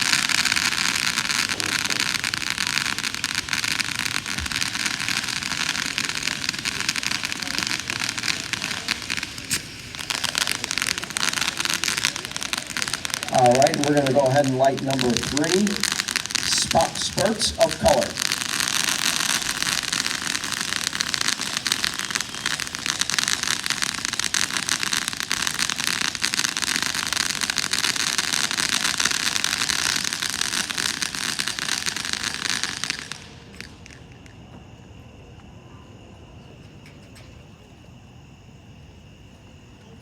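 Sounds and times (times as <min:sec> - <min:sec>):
firework fountain hissing and crackling: 0:00.0 - 0:40.0.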